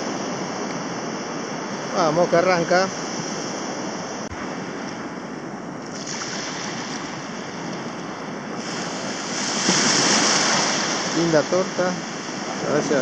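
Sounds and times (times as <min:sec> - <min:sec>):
waves breaking on a beach: 0:00.0 - 0:13.0.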